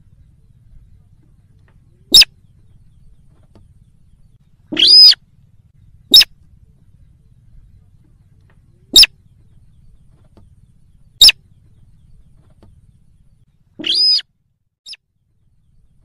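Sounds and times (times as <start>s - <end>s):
rail bird calling: 0.0s - 14.3s.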